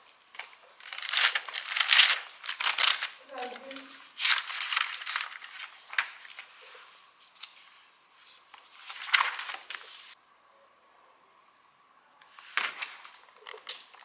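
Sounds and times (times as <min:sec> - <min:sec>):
paper pages rustling and flapping: 0:00.0 - 0:10.2, 0:12.3 - 0:14.0.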